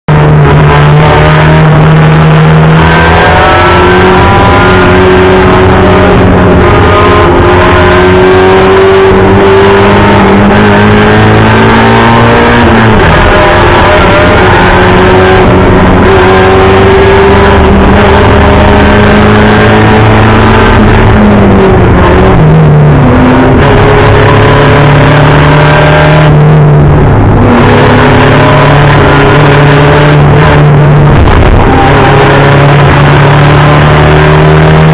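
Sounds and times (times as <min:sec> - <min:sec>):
race car engine at full throttle: 0:00.0 - 0:34.9.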